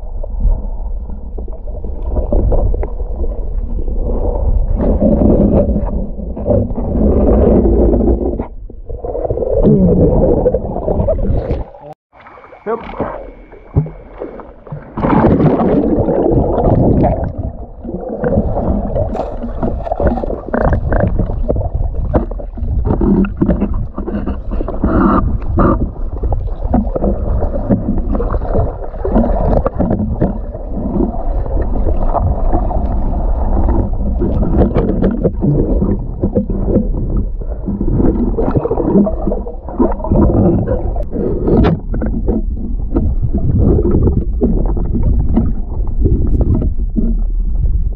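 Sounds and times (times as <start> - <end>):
underwater rumbling and gurgling: 0.0 - 47.9.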